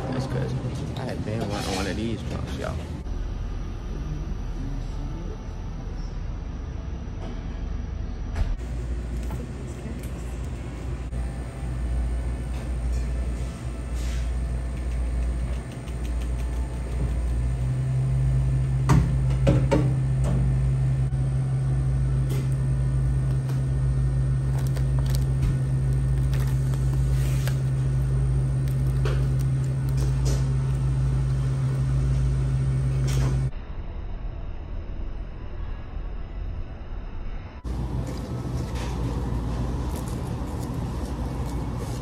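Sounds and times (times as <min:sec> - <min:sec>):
low machine hum: 0:00.0 - 0:42.0
loud low drone: 0:02.9 - 0:14.7, 0:16.6 - 0:41.8.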